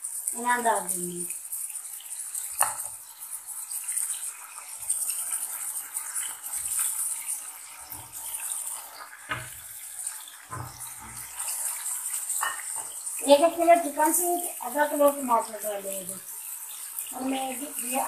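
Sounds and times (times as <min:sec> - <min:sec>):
chicken sizzling in a wok: 0:00.0 - 0:18.0.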